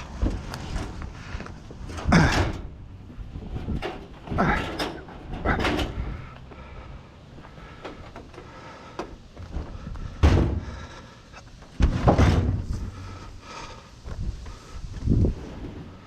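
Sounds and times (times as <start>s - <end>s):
heavy bangs and clunks: 0.0s - 13.4s.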